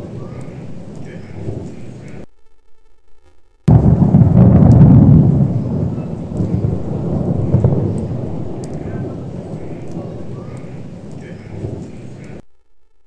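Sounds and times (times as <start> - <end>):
thunder rumbling: 0.0 - 2.2, 3.7 - 12.4.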